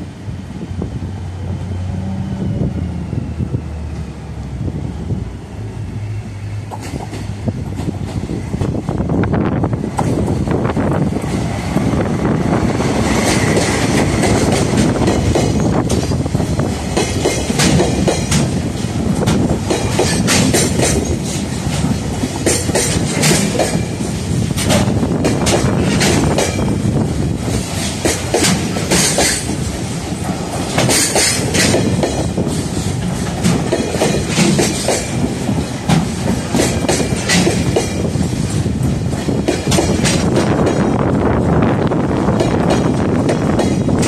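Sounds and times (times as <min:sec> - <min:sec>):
train wheels rumbling on rails: 0:00.0 - 0:44.0
clickety-clack over rail joints: 0:06.6 - 0:44.0.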